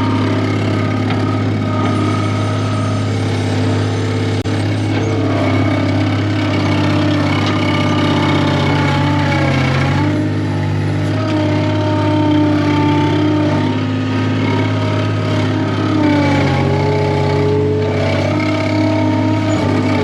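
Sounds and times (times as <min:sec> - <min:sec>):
skid steer engine idling: 0:00.0 - 0:20.0.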